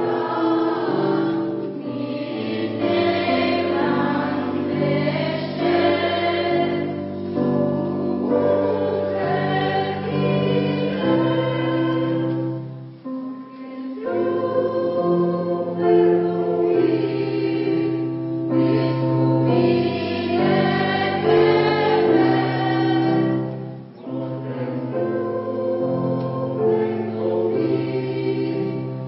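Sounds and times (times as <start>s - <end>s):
choir singing: 0.0s - 29.0s.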